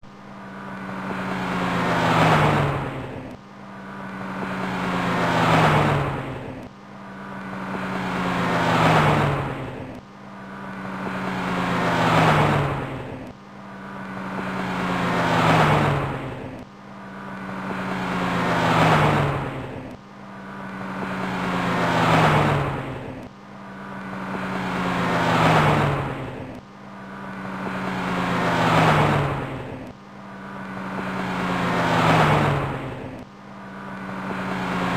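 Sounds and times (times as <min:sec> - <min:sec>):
car driving past: 0:00.3 - 0:34.9.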